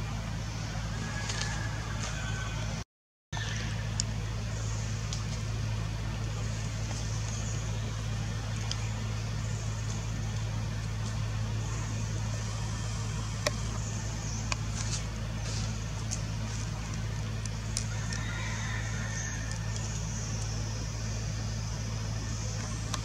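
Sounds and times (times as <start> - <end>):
low engine hum: 0.0 - 2.8, 3.4 - 23.0.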